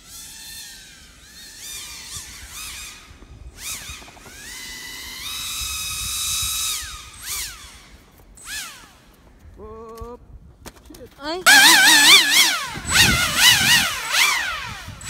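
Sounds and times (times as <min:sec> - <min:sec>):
electric motor and propeller whining: 0:00.0 - 0:09.6, 0:11.4 - 0:15.0.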